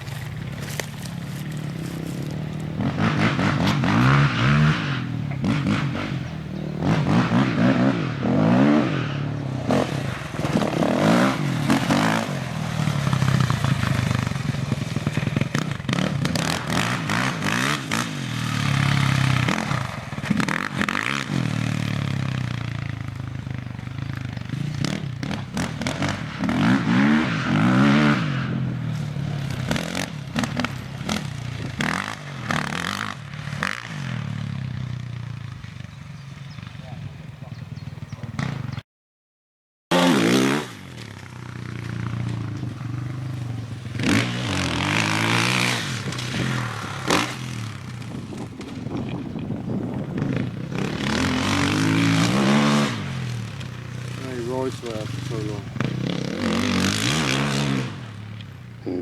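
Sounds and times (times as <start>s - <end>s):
dirt bike engines revving: 0.0s - 38.8s, 39.9s - 59.0s.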